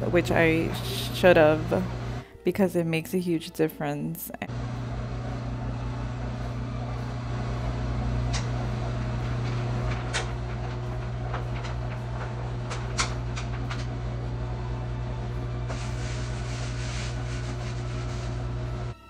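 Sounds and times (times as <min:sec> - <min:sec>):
steady low hum: 0:00.0 - 0:02.3, 0:04.5 - 0:19.0.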